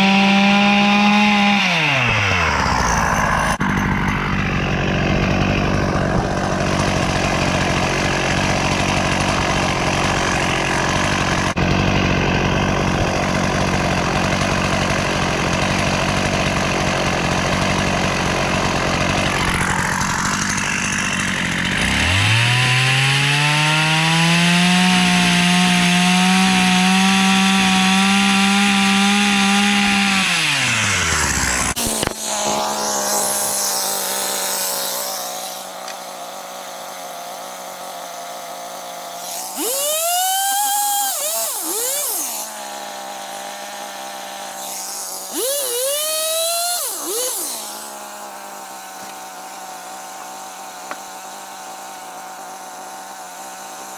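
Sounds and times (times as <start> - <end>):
chainsaw idling: 0.0 - 53.9
chainsaw revving: 0.0 - 53.9
chainsaw sawing through wood: 0.0 - 53.9.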